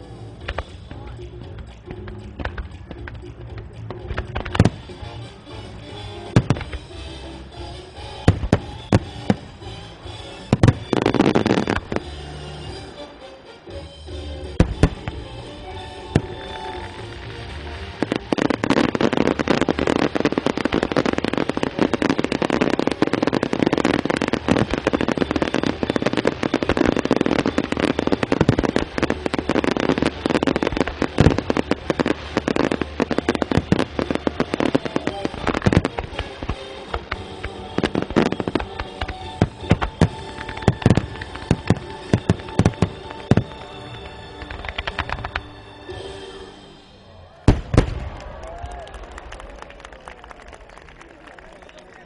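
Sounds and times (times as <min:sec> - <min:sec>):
fireworks crackling: 0:00.0 - 0:13.2, 0:14.4 - 0:52.0
music: 0:00.0 - 0:48.2
fireworks bangs: 0:02.2 - 0:05.0, 0:05.8 - 0:12.2, 0:14.6 - 0:45.6, 0:47.4 - 0:52.0.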